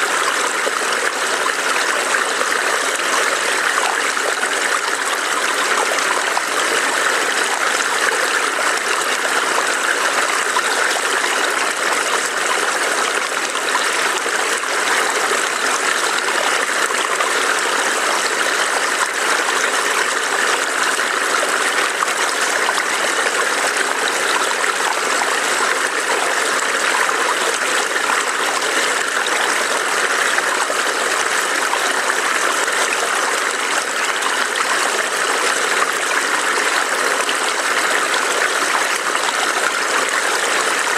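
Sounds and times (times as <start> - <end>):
stream burbling over rocks: 0.0 - 40.9.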